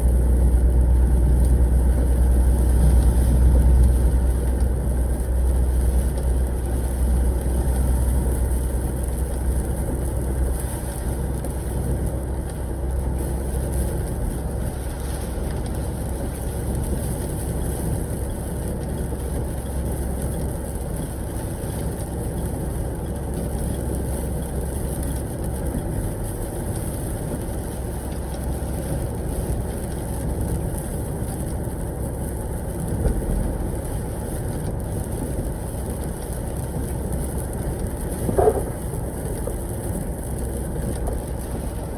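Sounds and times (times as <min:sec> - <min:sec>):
road noise: 0:00.0 - 0:41.9
truck engine drone: 0:00.0 - 0:41.9.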